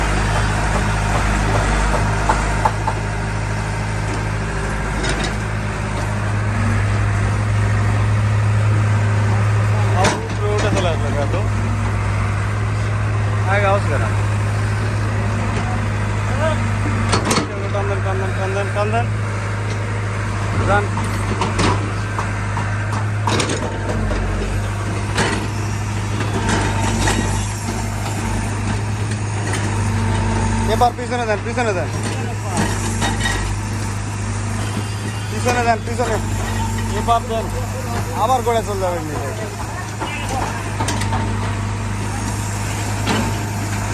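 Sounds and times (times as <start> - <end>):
heavy machinery engine drone: 0.0 - 43.9.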